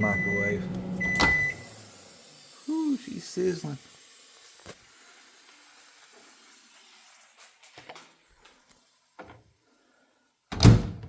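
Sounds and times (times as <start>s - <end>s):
food pouch sizzling steam: 0.3s - 10.5s.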